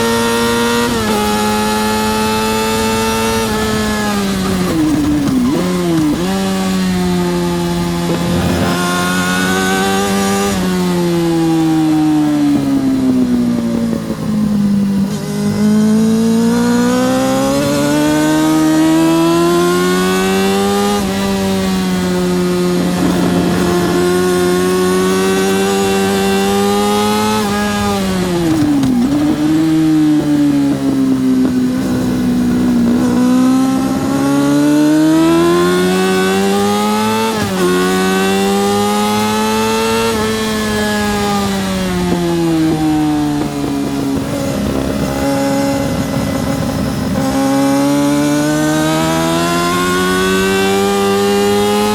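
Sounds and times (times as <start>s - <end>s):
motorcycle engine at high revs: 0.0s - 51.9s
wind rush: 0.7s - 51.9s.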